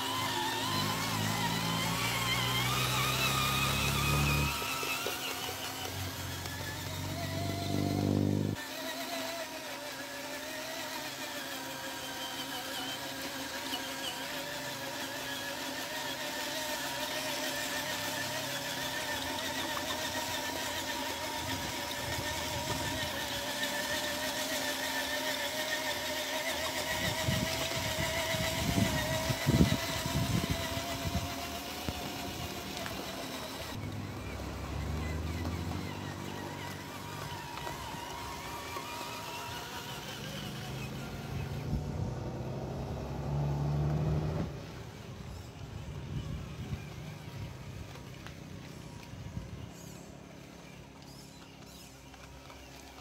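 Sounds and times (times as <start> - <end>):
toy truck motor whining: 0.0 - 53.0.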